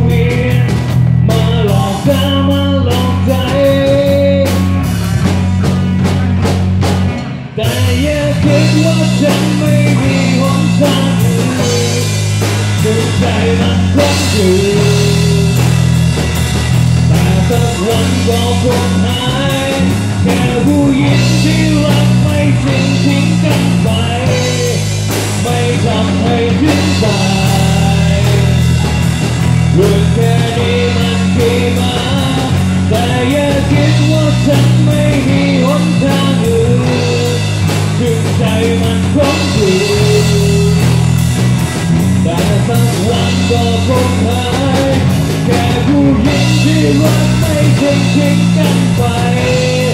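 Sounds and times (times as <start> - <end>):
rock band playing: 0.0 - 49.9.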